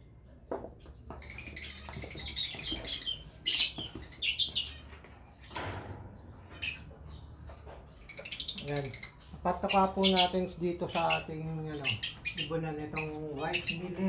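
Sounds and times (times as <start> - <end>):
caged birds chirping: 0.0 - 14.0.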